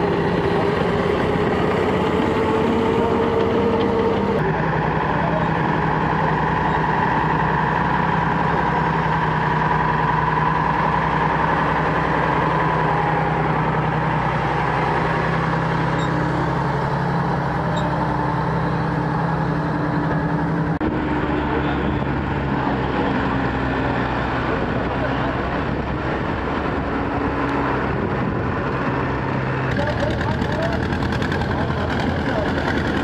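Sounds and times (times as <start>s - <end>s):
diesel truck engine driving past: 0.0s - 33.0s
tractor engine driving: 0.0s - 33.0s.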